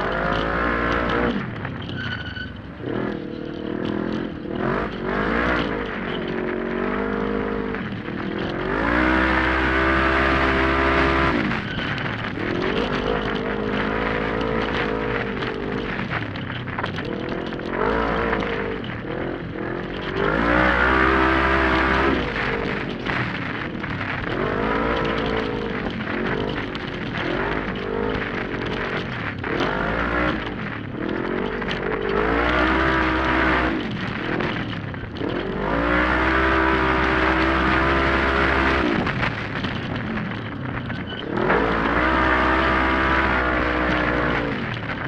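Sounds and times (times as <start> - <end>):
engine revving: 0.0 - 1.6, 2.7 - 40.4, 41.1 - 45.0.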